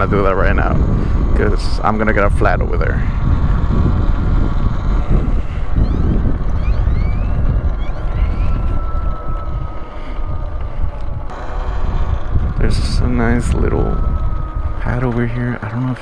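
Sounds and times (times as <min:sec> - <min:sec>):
faint thin whine: 0:00.0 - 0:16.0
wind buffeting microphone: 0:00.0 - 0:16.0.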